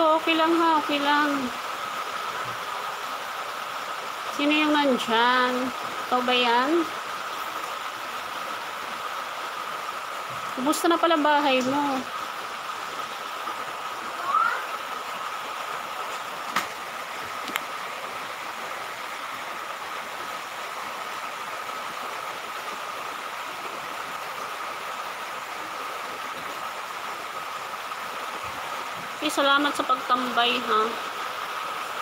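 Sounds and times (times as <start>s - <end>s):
background hiss: 0.0s - 32.0s.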